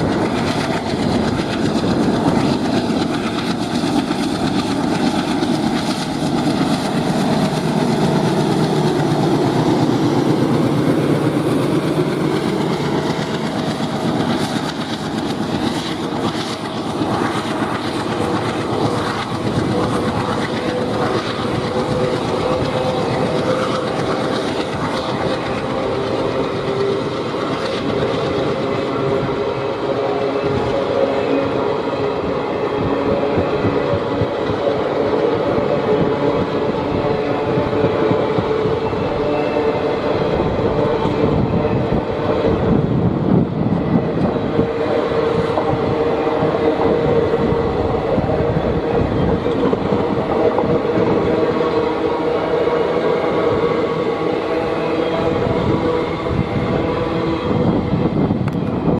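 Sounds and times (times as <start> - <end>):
train wheels clattering on rails: 0.0 - 58.9.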